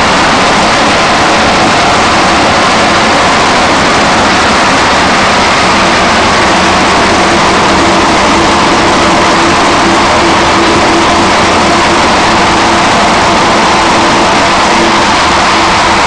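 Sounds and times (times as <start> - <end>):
crusher machine running: 0.0 - 16.0.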